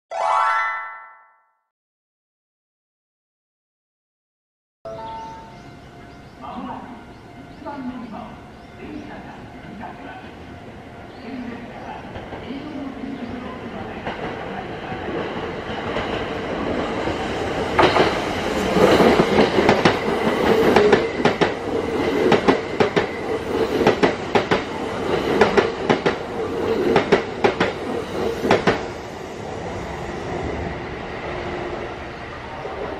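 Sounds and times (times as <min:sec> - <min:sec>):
train rumbling: 0:05.2 - 0:32.9.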